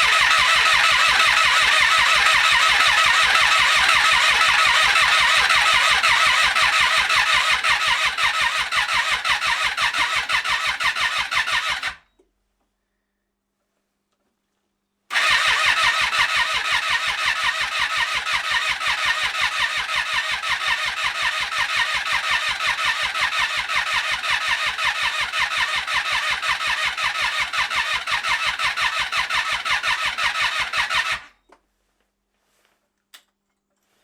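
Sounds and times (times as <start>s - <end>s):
starter motor cranking engine: 0.0s - 12.0s, 15.1s - 31.4s.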